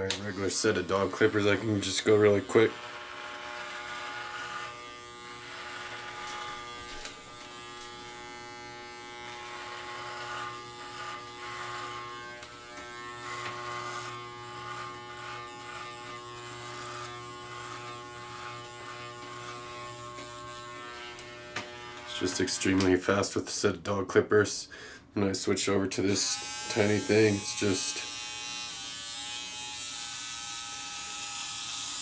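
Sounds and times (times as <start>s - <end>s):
electric clippers humming: 0.0s - 22.9s, 26.1s - 32.0s
clipper blades cutting thick hair: 0.0s - 23.0s, 26.1s - 32.0s.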